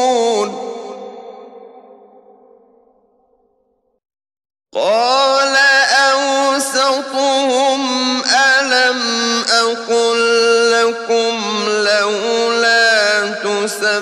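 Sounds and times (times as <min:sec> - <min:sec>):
man chanting melodically: 0:00.0 - 0:02.0, 0:04.8 - 0:14.0.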